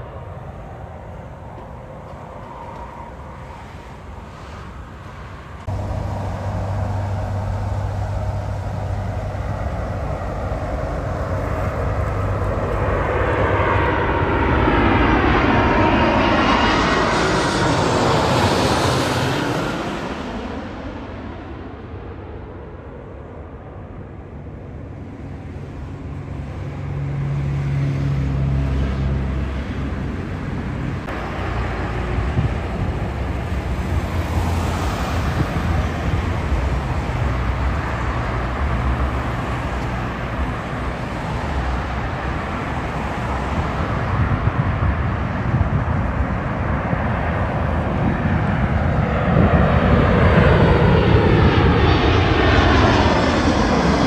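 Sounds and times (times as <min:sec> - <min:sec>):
jet airliners passing overhead: 0:00.0 - 0:54.0.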